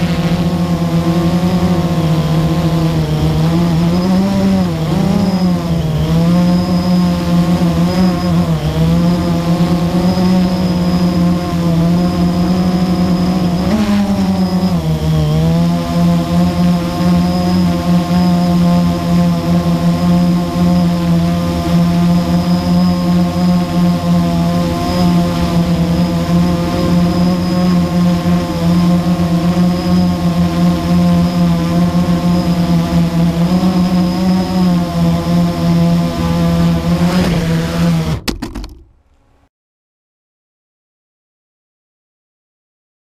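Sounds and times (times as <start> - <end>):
quadcopter motors humming: 0.0 - 38.8.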